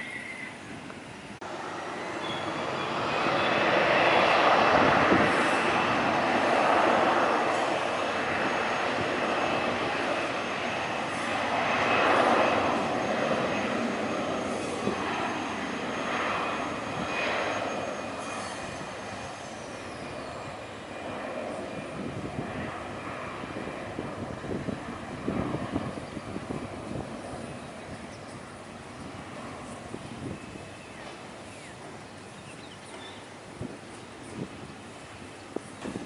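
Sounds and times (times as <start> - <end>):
jet airliner engines roaring: 0.0 - 36.0.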